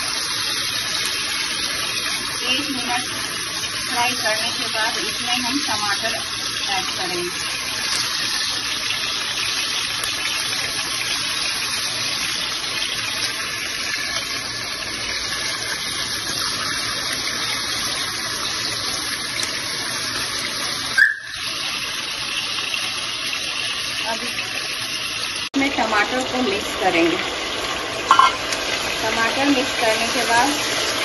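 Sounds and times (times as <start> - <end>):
potatoes sizzling in a pan: 0.0 - 31.0.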